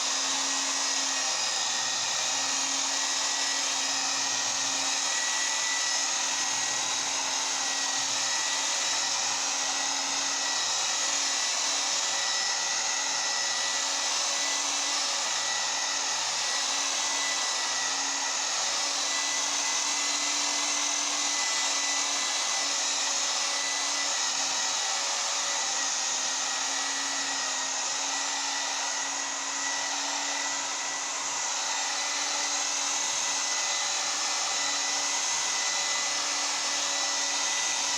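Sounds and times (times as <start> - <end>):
electric buffer polishing: 0.0 - 37.9.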